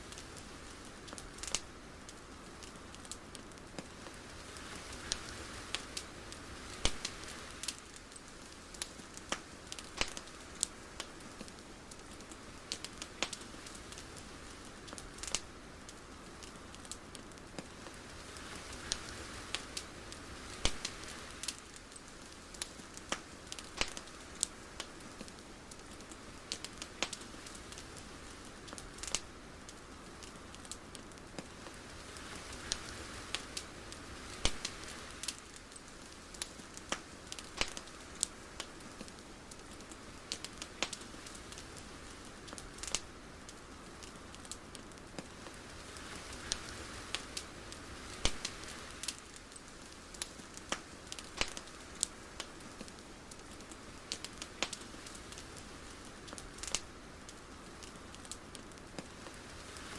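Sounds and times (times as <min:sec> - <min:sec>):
sharp crackling pops: 0:00.0 - 0:59.9
soft steady hiss: 0:00.0 - 0:59.9.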